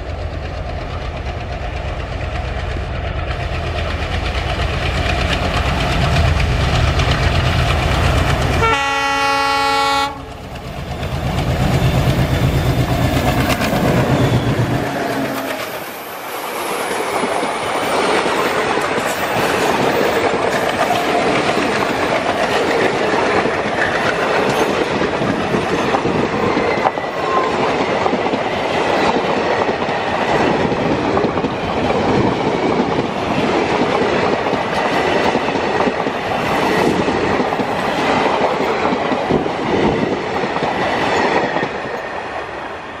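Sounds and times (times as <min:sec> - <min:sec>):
express train rushing past: 0:00.0 - 0:43.0.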